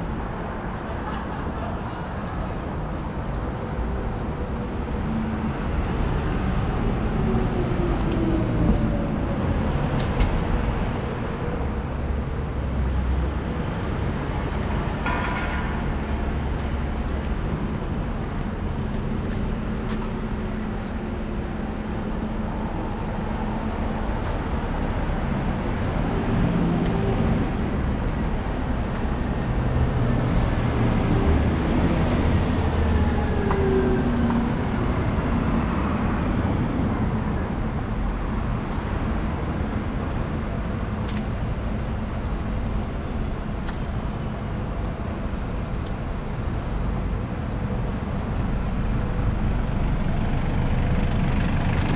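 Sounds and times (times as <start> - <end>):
passing motor vehicles: 0.0 - 51.9.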